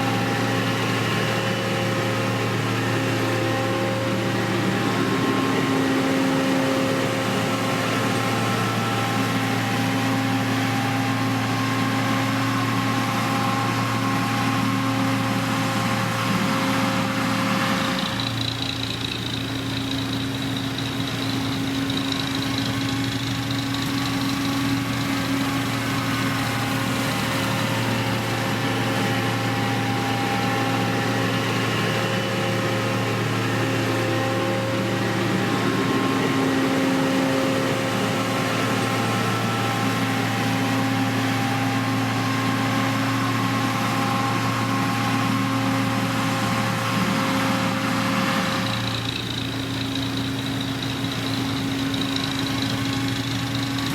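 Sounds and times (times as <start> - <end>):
heavy machinery diesel engine running: 0.0 - 53.9.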